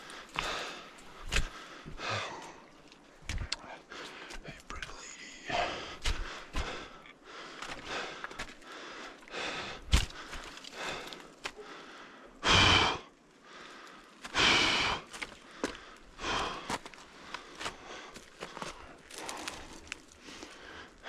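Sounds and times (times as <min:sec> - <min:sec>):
heavy laboured breathing: 0:00.0 - 0:21.0.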